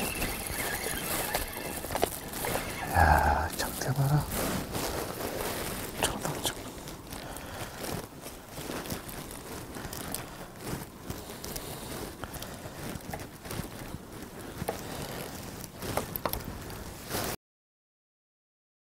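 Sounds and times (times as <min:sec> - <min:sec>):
crackles and clicks: 0:00.0 - 0:17.4.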